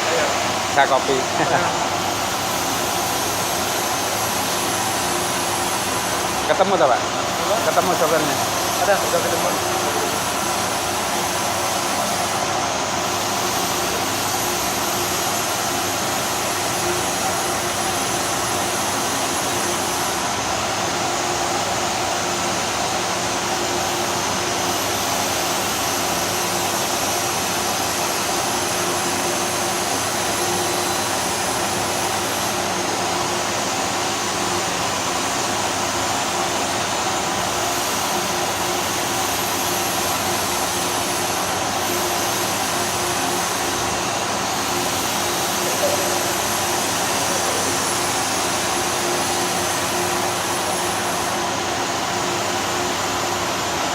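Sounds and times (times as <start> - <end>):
machinery hiss and hum: 0.0 - 53.9.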